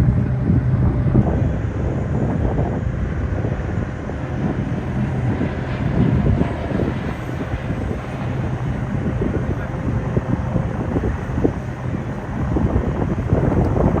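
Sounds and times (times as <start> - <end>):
aircraft engine rumble: 0.0 - 14.0.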